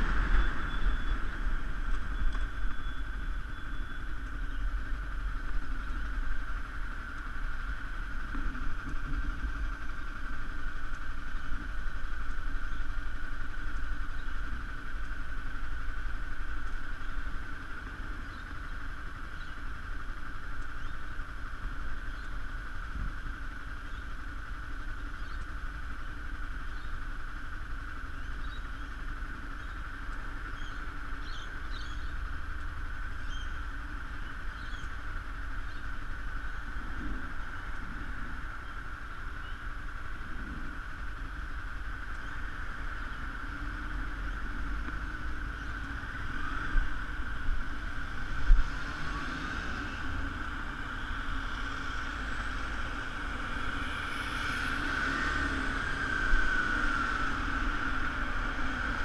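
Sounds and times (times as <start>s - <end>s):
bicycle road and wind noise: 0.0s - 59.0s.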